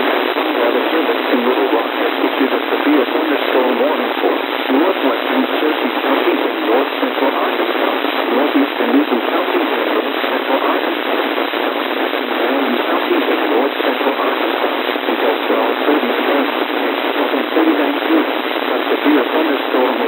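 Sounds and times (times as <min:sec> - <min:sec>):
faint voice broadcast: 0:00.0 - 0:20.0
radio static hiss: 0:00.0 - 0:20.0.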